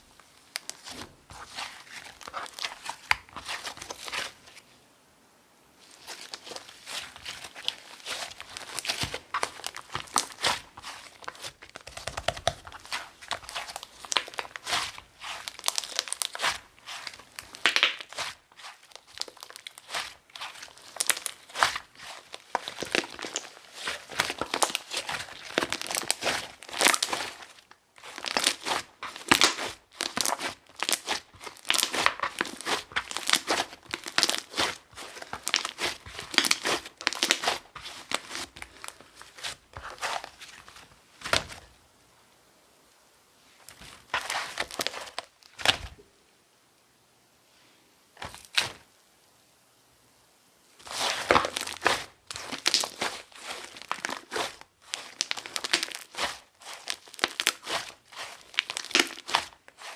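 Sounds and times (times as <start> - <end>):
slime crackling and popping: 0.4 - 4.4, 5.9 - 41.7, 43.7 - 46.0, 50.8 - 59.9.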